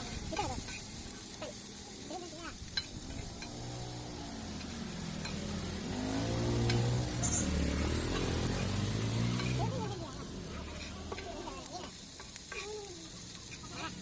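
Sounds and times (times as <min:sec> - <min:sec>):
fish sizzling on a griddle: 0:00.0 - 0:14.0
vehicle engine humming: 0:00.0 - 0:14.0.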